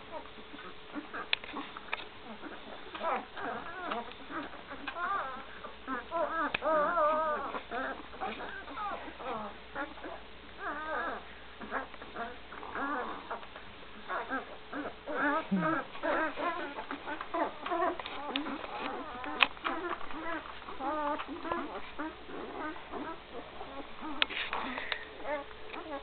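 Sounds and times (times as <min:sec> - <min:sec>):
puppies squeaking and whining: 0:00.0 - 0:26.0.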